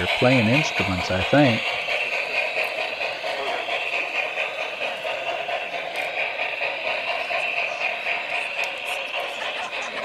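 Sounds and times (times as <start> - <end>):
model train rolling hum: 0.0 - 10.0.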